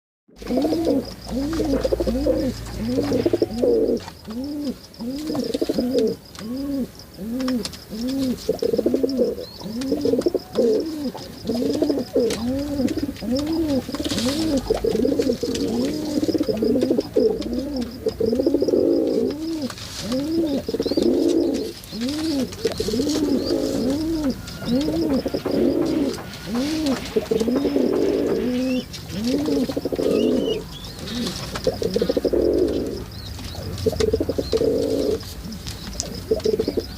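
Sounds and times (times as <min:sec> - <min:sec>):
pigeon cooing: 0:00.4 - 0:36.9.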